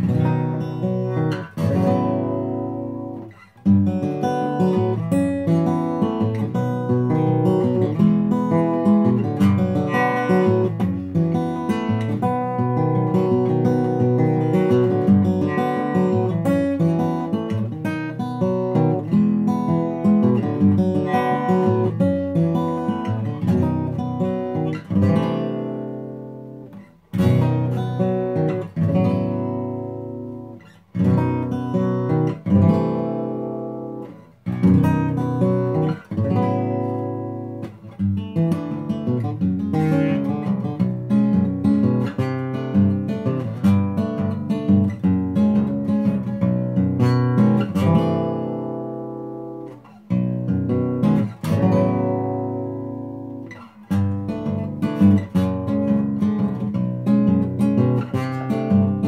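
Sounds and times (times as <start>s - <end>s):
fingerpicked acoustic guitar: 0.0s - 59.0s.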